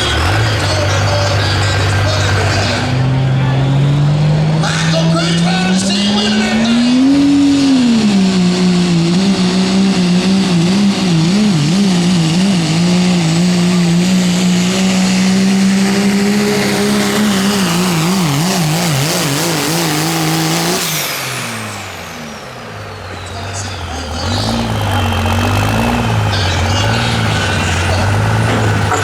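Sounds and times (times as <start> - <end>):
diesel engine at full throttle: 0.0 - 29.0.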